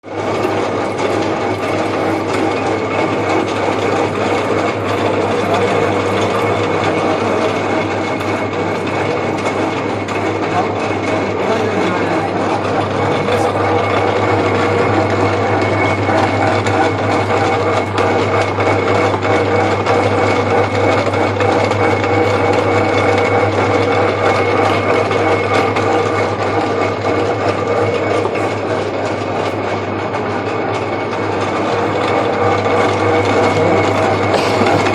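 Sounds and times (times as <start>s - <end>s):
lathe running: 0.0s - 34.9s.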